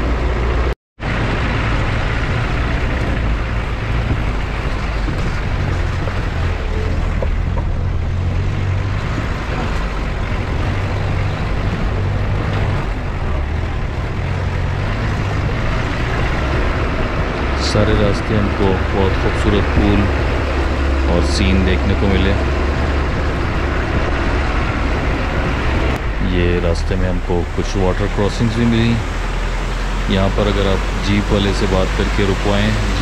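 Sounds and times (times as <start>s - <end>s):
engine rumble: 0.0s - 33.0s
track noise: 0.0s - 33.0s.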